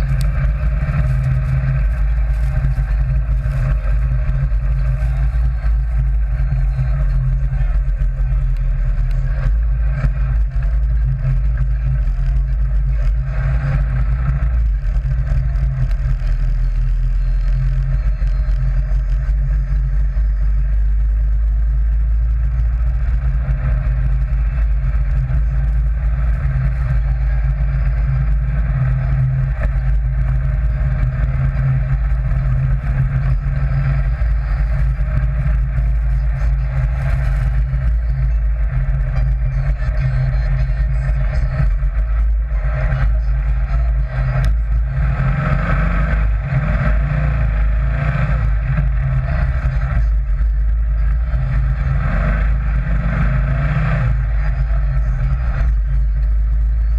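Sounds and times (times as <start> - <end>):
dune buggy engine running: 0.0 - 56.9.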